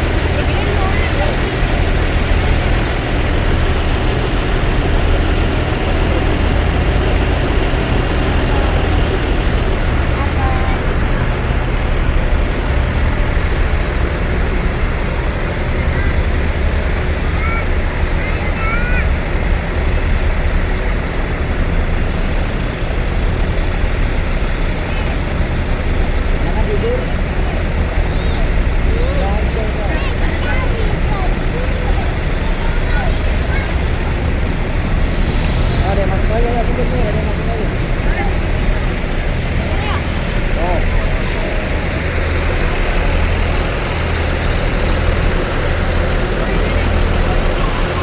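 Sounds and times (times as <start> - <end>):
bus diesel engine idling: 0.0 - 48.0.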